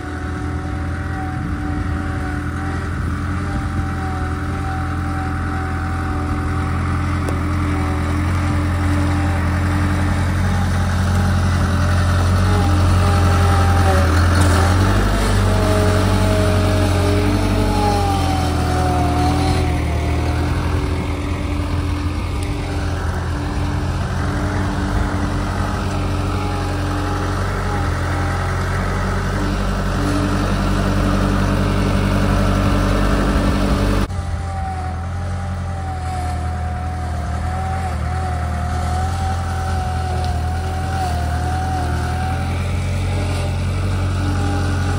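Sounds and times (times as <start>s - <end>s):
hydraulic whine: 0.0s - 44.9s
skid steer engine drone: 0.0s - 44.9s.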